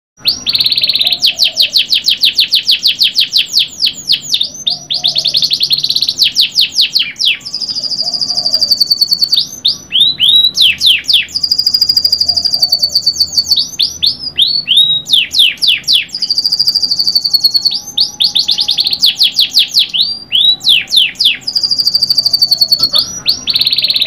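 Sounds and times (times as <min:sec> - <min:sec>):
canary singing trills: 0:00.2 - 0:24.0.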